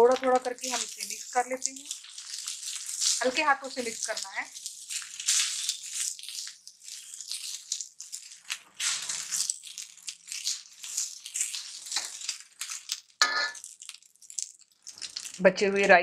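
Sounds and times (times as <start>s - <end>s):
spatula scraping rice in pan: 0.7s - 13.6s.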